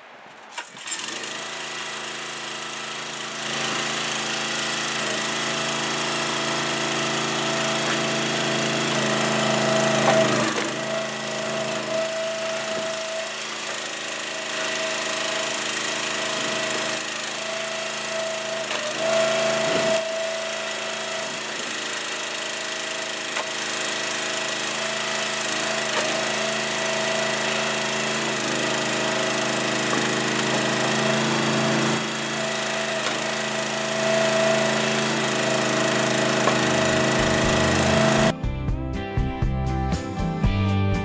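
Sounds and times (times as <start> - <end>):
gasoline engine running: 5.0 - 38.3.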